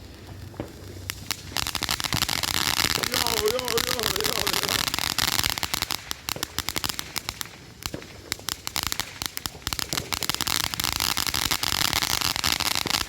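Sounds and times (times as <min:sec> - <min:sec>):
firework hiss: 0:00.0 - 0:13.0
ground firework crackling: 0:00.0 - 0:13.0.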